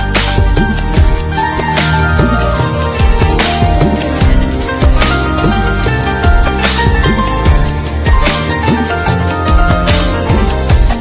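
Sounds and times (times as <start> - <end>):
drum and bass beats: 0.0 - 11.0
film song instrumental: 0.0 - 11.0.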